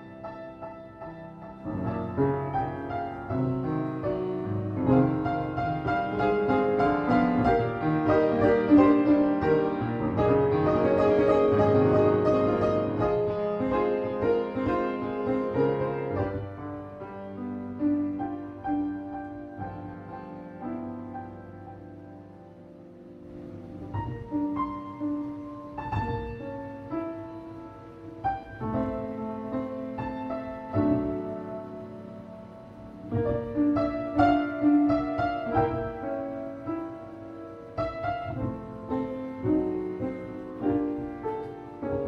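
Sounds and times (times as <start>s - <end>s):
solo piano piece: 0.0s - 42.0s.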